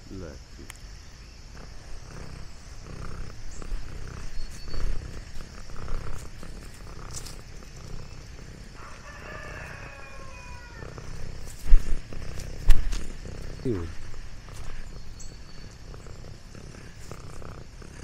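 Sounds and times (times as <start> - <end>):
cat purring: 1.4 - 18.0
drawn-out animal call: 1.5 - 18.0
rustling in grass: 1.6 - 18.0.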